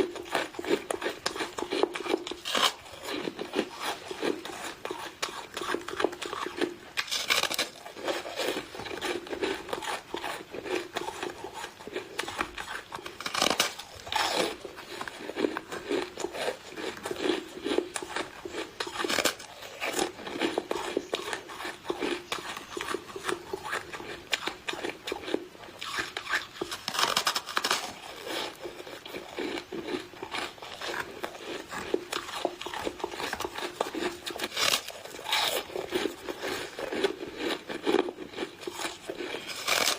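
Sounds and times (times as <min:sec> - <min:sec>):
crunching and chewing foam: 0:00.0 - 0:39.9.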